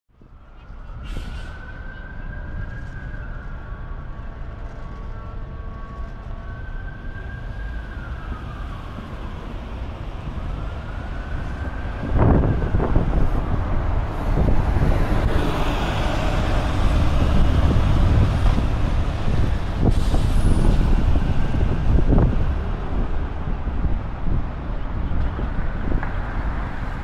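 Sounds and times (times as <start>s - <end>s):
bus engine and road noise: 0.1s - 27.0s
city traffic rumble: 0.1s - 27.0s
siren wailing: 0.2s - 23.5s.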